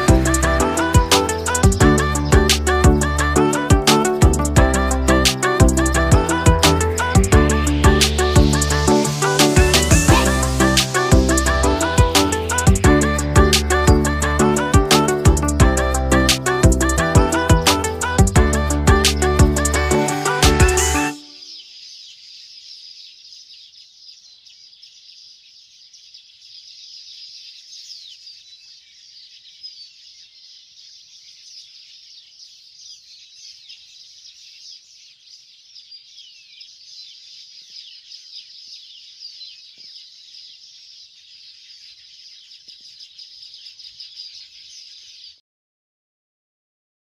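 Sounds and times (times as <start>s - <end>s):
birds chirping and whistling: 0.0s - 45.4s.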